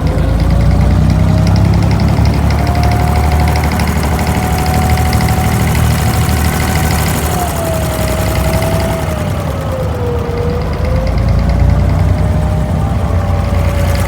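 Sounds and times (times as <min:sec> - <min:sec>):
diesel engine drone: 0:00.0 - 0:14.0
thin whine: 0:00.0 - 0:14.0.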